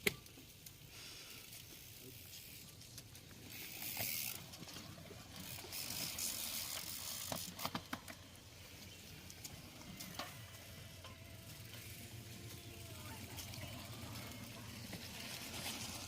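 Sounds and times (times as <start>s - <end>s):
bicycle rattling and ticking: 0.2s - 16.0s.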